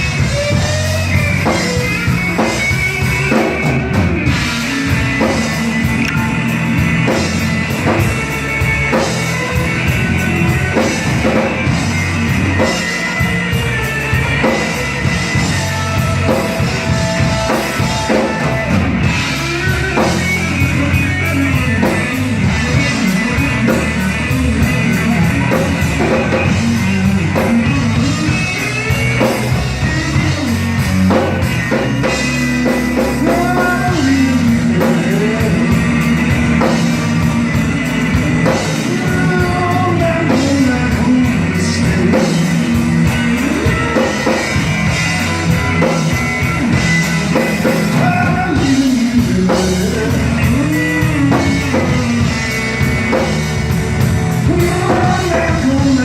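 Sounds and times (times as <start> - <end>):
electric guitar lead with bends: 0.0 - 56.0
slow blues band playing: 0.0 - 56.0.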